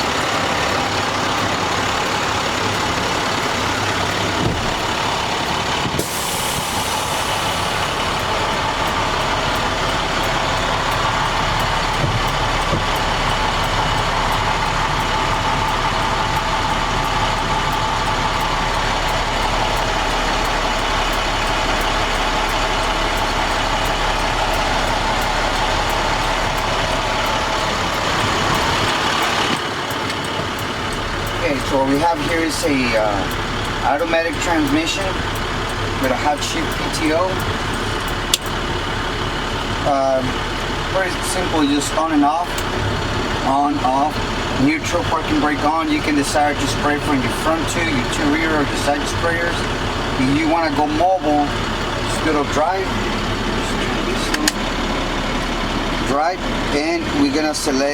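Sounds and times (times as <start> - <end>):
diesel truck engine idling: 0.0 - 57.9.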